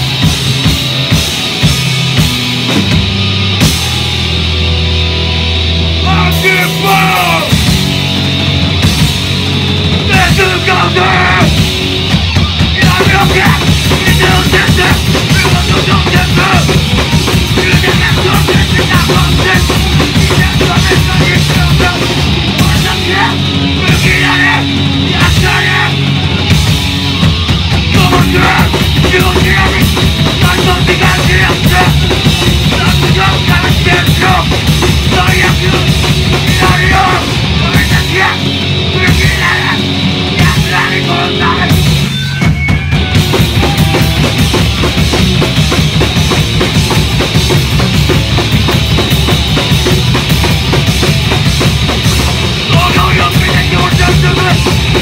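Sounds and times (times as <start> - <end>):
drums and crashing cymbals: 0.0 - 55.0
punk band playing live: 0.0 - 55.0.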